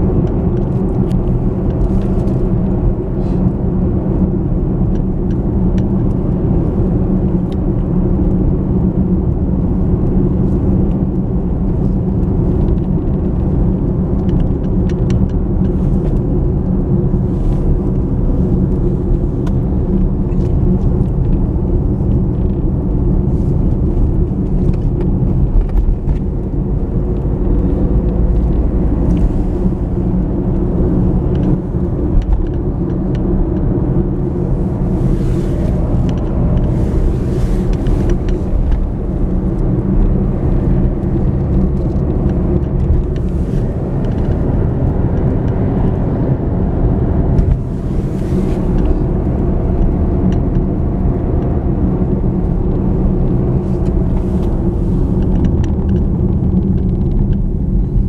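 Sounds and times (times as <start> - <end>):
car engine running: 0.0 - 58.0
low road noise rumble: 0.0 - 58.0.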